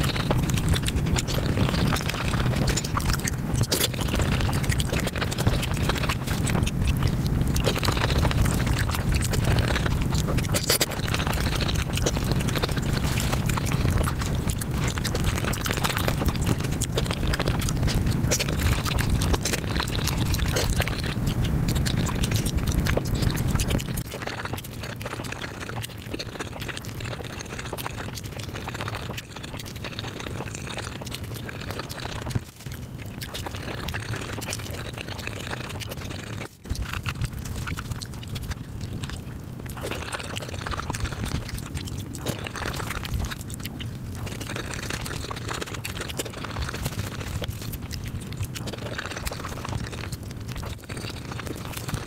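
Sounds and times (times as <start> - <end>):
fast chewing and mouth noises: 0.0 - 52.0.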